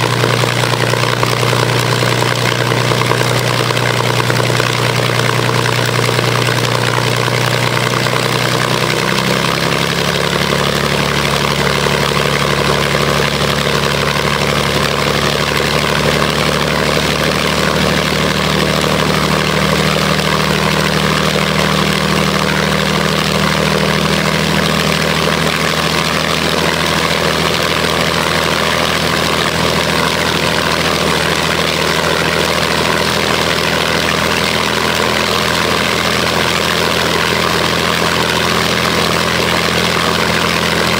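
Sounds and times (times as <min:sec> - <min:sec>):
aircraft engine running: 0:00.0 - 0:40.9.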